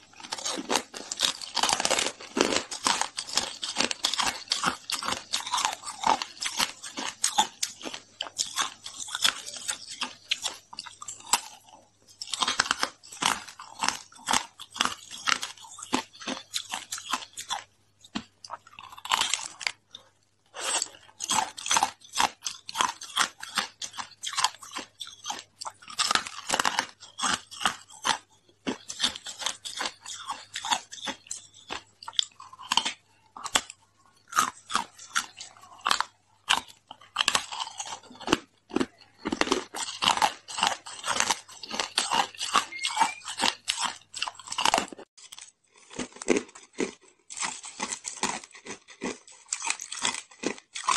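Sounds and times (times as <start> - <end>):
ice being chewed and crunched: 0.0 - 50.9.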